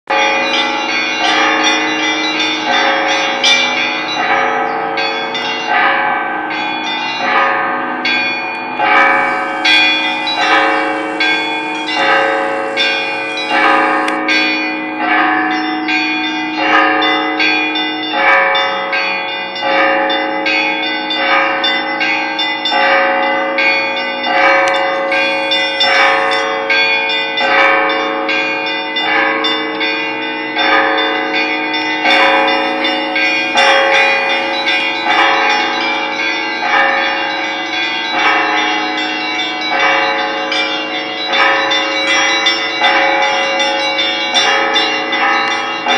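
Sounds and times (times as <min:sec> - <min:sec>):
church bells ringing a peal: 0:00.1 - 0:45.9.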